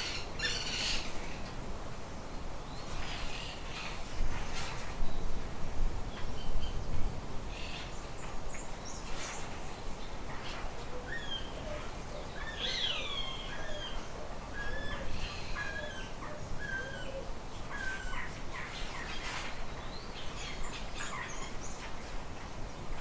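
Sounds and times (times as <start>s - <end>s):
birds calling and chirping: 0.0s - 23.0s
low background hiss: 0.0s - 23.0s.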